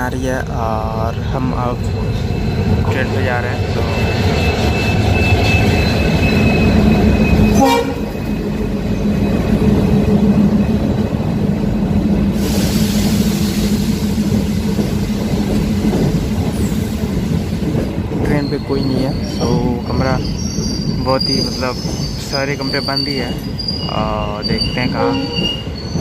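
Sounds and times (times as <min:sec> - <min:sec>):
diesel locomotive engines: 0:00.0 - 0:26.0
train coaches rumbling: 0:00.0 - 0:26.0.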